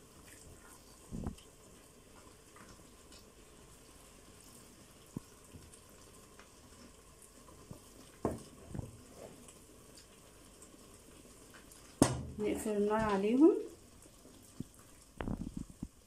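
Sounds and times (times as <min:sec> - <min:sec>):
faint simmering: 0:00.0 - 0:16.0.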